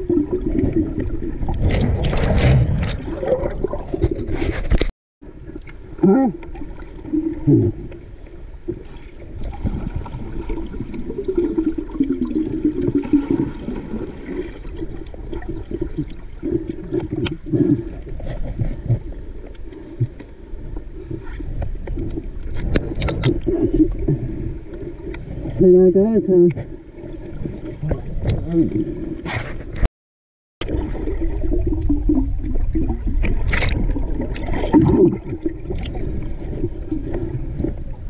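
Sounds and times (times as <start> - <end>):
muffled underwater churning: 0.0 - 29.9, 30.6 - 38.0.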